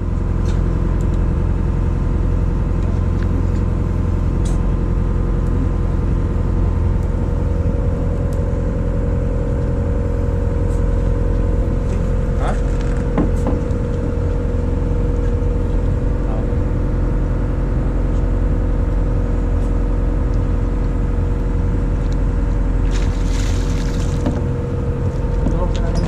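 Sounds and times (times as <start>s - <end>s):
boat engine drone: 0.0s - 26.0s.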